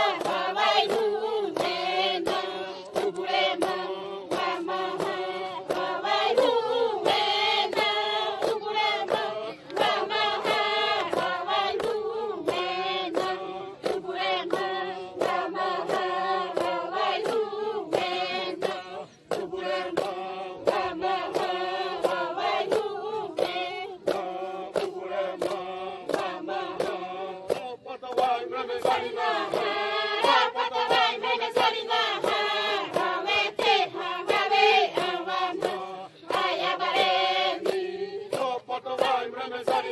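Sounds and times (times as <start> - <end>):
women chanting in unison: 0.0 - 39.9.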